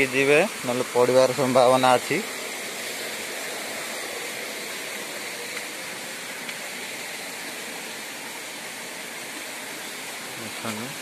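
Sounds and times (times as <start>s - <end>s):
waterfall stream rushing: 0.0s - 11.0s.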